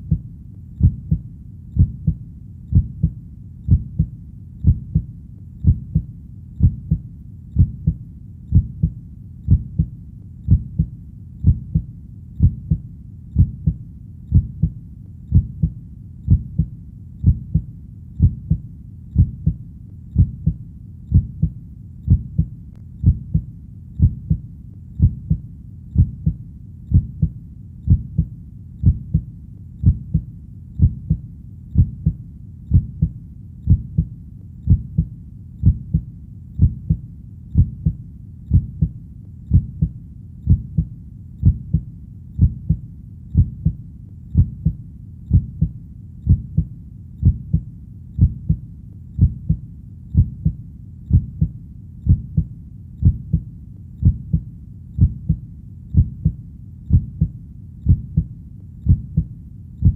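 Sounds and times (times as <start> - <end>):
heartbeat thuds: 0.0 - 48.6, 49.2 - 59.9.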